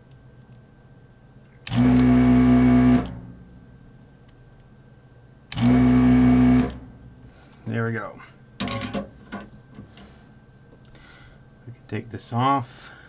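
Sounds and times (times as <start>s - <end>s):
desoldering pump humming: 0.0s - 13.0s.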